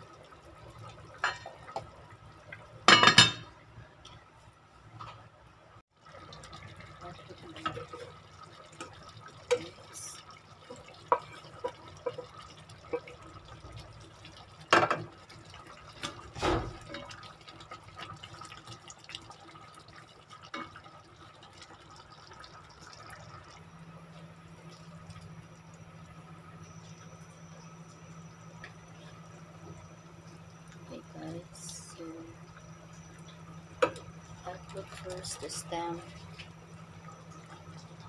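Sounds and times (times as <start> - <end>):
stew bubbling in a pot: 0.0 - 4.4, 5.9 - 38.0.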